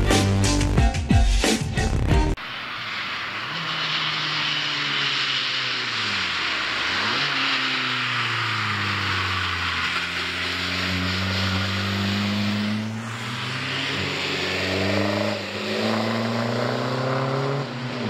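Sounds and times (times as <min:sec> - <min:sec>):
diesel engine exhaust drone: 0:02.4 - 0:18.0.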